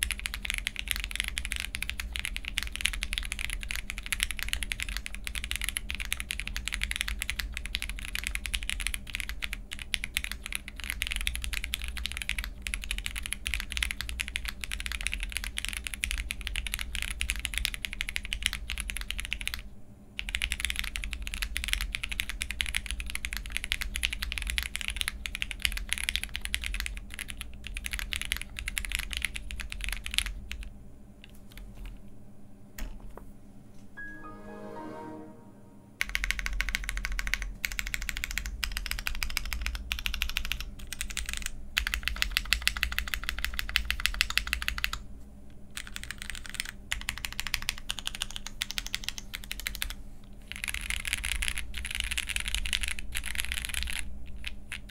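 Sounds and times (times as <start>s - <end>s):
mechanical keyboard typing: 0.0s - 19.6s, 20.2s - 32.0s, 36.0s - 45.0s, 45.8s - 54.9s.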